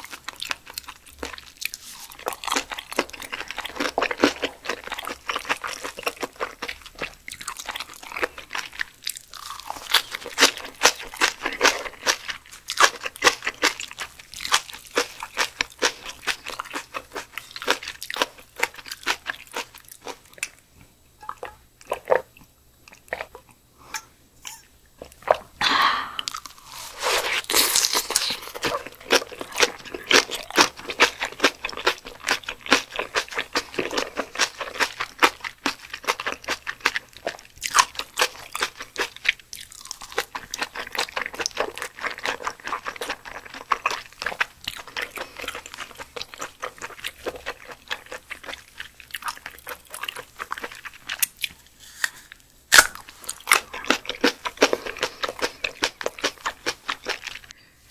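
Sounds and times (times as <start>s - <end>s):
wet chewing with small crunches: 0.0s - 25.5s, 26.2s - 57.6s.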